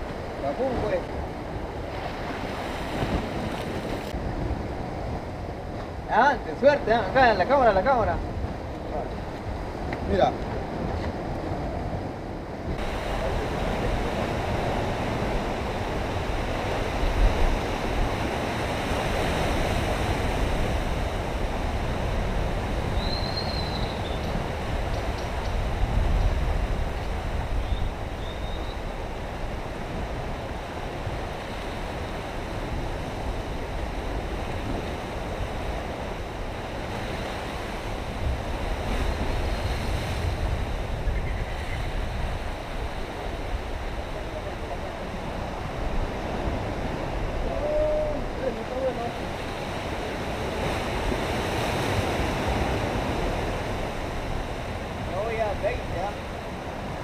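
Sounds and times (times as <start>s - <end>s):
surf breaking on rocky shore: 0.0s - 57.0s
wind rumbling on microphone: 0.0s - 57.0s.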